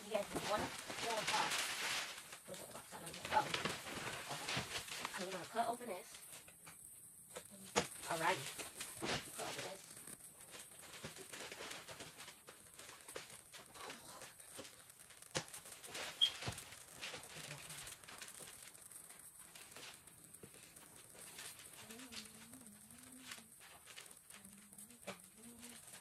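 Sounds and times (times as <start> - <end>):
wrapping paper rustling: 0.0 - 26.0.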